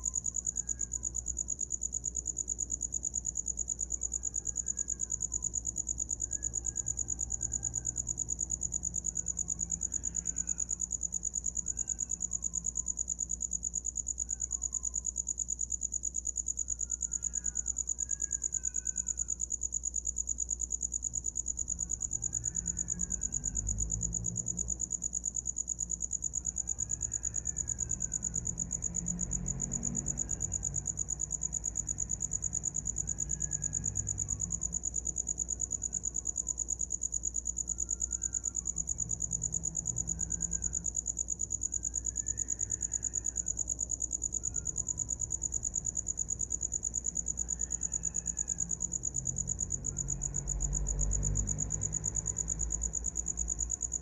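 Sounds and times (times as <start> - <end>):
cricket trilling: 0.0 - 54.0.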